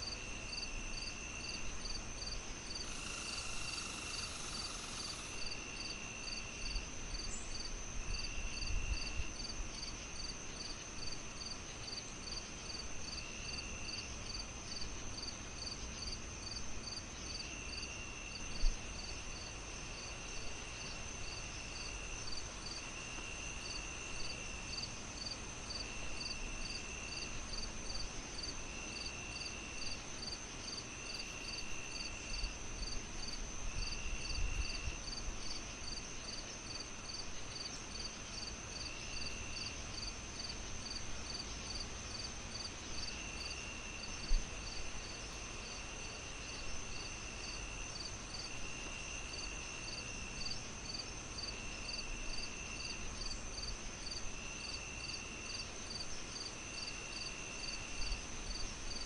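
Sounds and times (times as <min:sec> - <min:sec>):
crickets chirping: 0:00.0 - 0:59.0
lower insect trill: 0:00.0 - 0:59.0.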